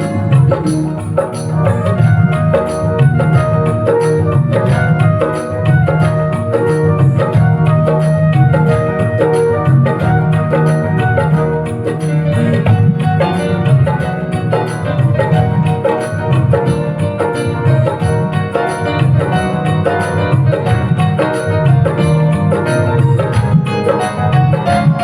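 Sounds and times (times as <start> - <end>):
music with a quick beat: 0.0 - 25.0
sustained keyboard notes: 0.0 - 25.0.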